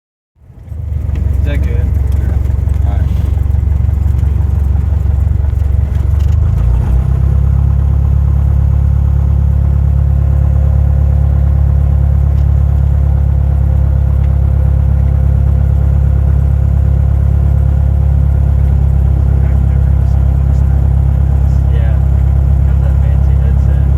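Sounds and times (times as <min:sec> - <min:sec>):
propeller plane engine drone: 0:00.4 - 0:23.9.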